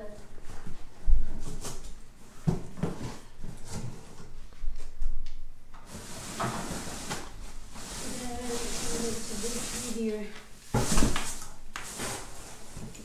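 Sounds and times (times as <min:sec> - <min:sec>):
rustling and scraping: 0:00.0 - 0:05.0, 0:05.8 - 0:13.0.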